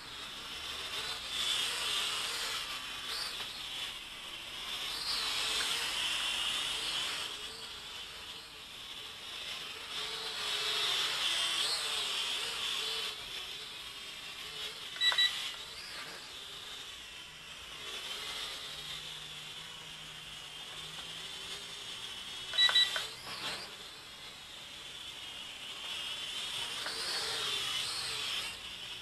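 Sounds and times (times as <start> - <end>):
toy drone propellers whining: 0.0 - 29.0.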